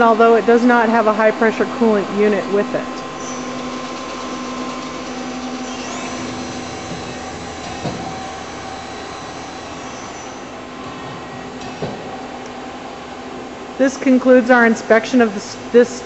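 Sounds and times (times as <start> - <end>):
faint whining tones: 0.0 - 13.8
machinery humming and hissing: 0.0 - 16.0.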